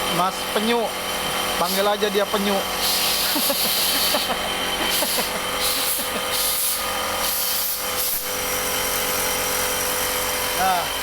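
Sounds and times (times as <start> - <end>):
printing press running: 0.0 - 11.0.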